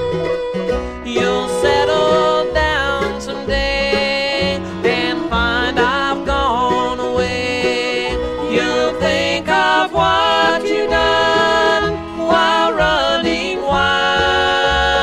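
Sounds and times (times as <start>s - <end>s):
bluegrass band playing: 0.0s - 15.0s.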